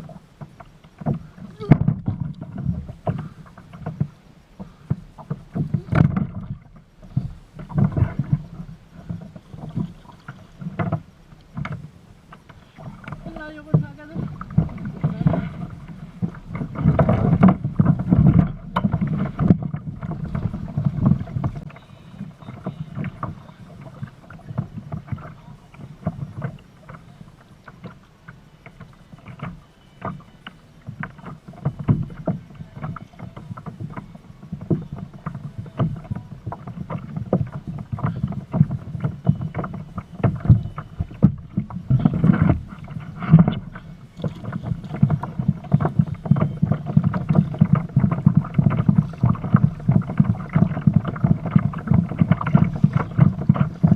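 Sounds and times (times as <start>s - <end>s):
water slapping against kayak hull: 0.0s - 53.9s.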